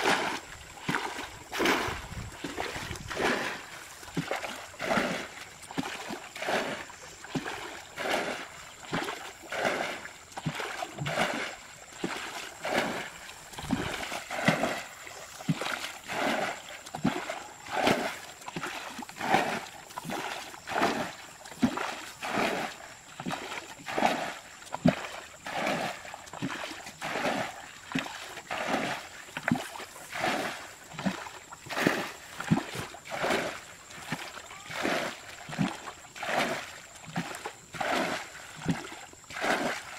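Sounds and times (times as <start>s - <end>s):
bucket scooping water splashes: 0.0s - 39.9s.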